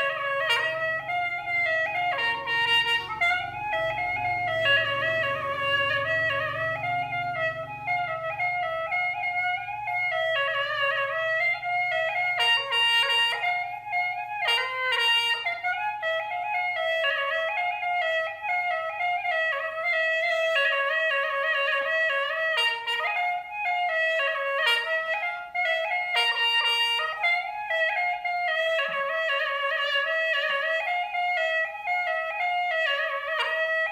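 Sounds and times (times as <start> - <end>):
reedy wind instrument melody: 0.0 - 33.9.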